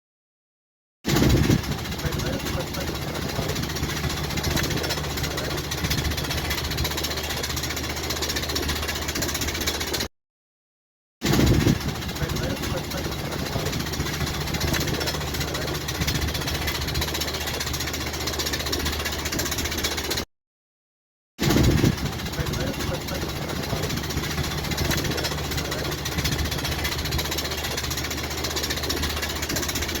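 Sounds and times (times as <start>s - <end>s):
low hum: 1.1s - 9.8s, 11.2s - 20.1s, 21.4s - 30.0s
jet engine rattling: 1.1s - 10.1s, 11.2s - 20.2s, 21.4s - 30.0s.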